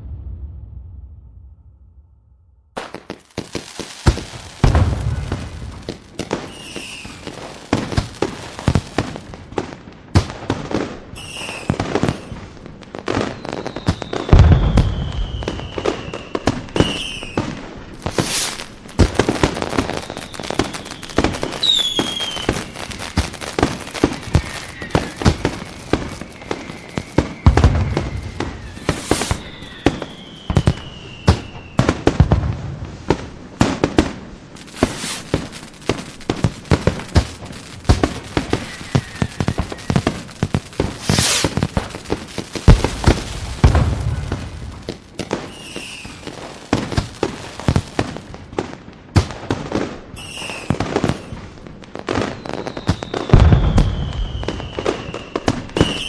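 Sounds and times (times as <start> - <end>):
fireworks bangs and crackling pops: 0.0 - 1.2, 2.8 - 56.0
deep fireworks booms: 0.0 - 56.0
fireworks whistles sliding down: 3.0 - 9.2, 11.2 - 12.4, 13.1 - 32.1, 34.6 - 48.2, 50.2 - 51.5, 52.1 - 56.0.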